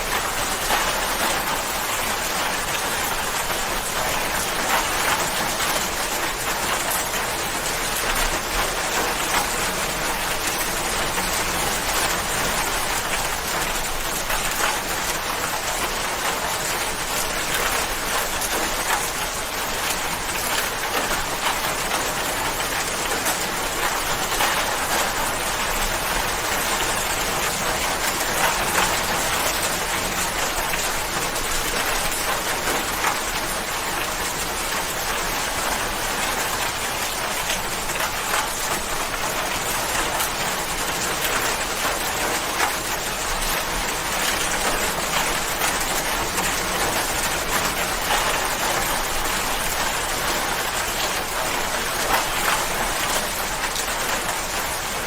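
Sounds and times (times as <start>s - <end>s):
rain spattering on a surface: 0.0s - 55.0s.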